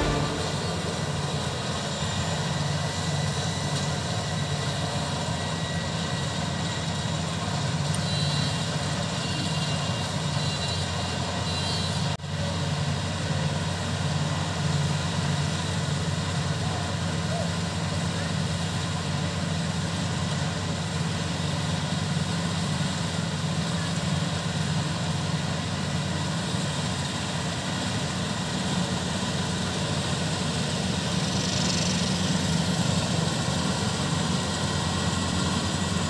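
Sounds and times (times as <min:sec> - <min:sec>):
combine harvester engine hum: 0:00.0 - 0:36.0.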